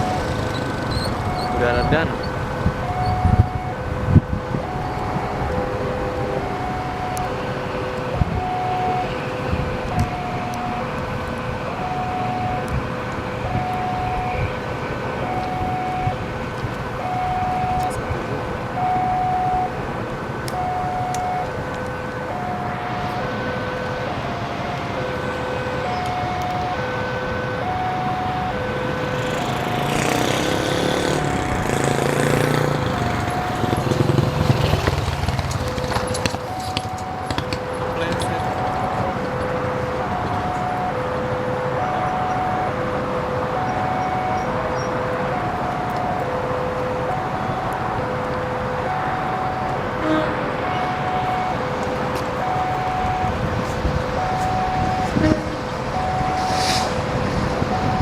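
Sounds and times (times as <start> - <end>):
two-note crossing siren: 0.0 - 16.4, 17.0 - 18.2, 18.8 - 19.8, 20.5 - 35.7, 36.4 - 46.4, 47.0 - 56.9, 57.7 - 58.0
traffic rumble: 0.0 - 58.0.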